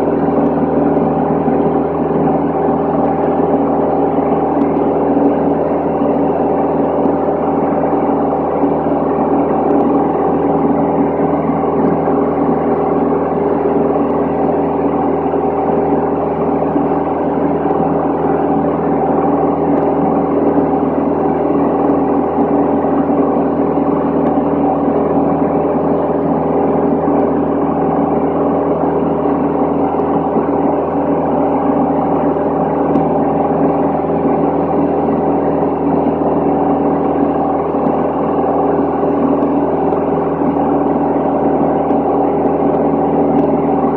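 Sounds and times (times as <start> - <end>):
aircraft engine drone in cabin: 0.0 - 43.9
rush of airflow: 0.0 - 43.9.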